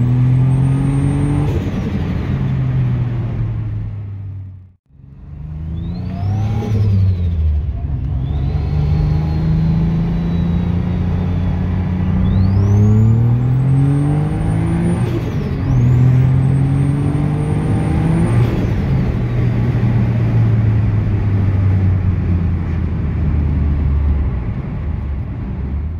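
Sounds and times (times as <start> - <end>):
car engine pulling hard: 5.0 - 25.9.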